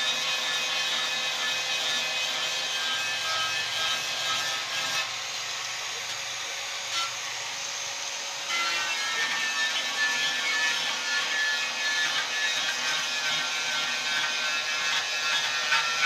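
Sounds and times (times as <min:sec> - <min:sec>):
hand sanding metal: 0:00.0 - 0:05.5, 0:08.5 - 0:16.0.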